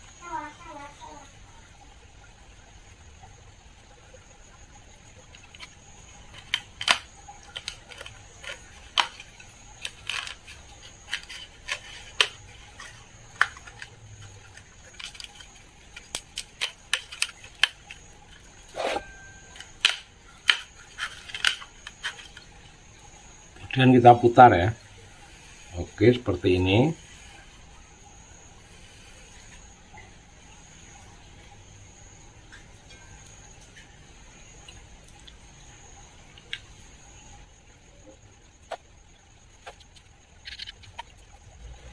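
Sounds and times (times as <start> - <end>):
faint high whine: 0.0 - 41.9.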